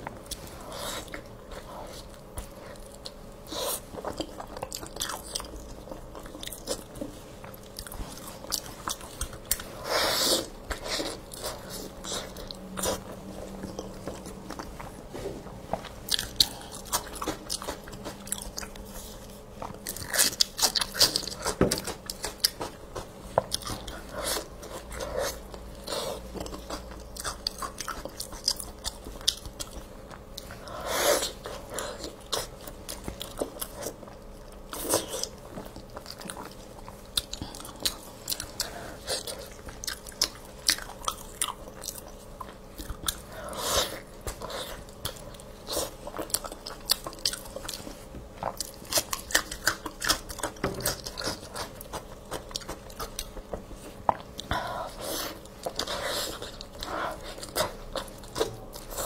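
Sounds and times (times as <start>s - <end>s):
wet chewing and gnawing: 0.0s - 59.0s.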